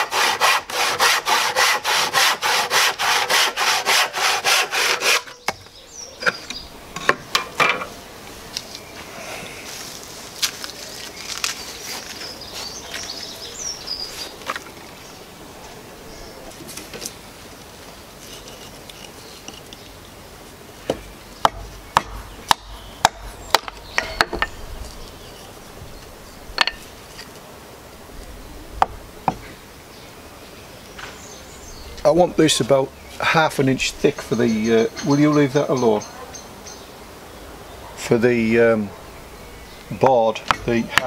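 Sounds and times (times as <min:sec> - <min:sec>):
birds chirping: 0:01.8 - 0:27.3, 0:28.3 - 0:41.0.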